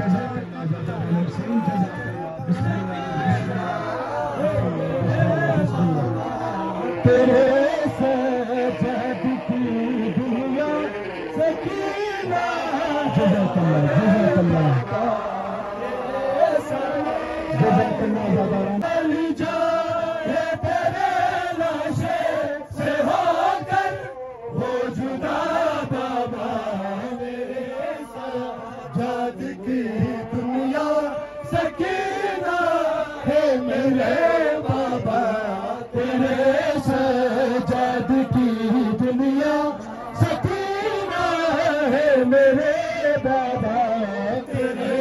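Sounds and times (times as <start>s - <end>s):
men chanting in unison: 0.0s - 45.0s.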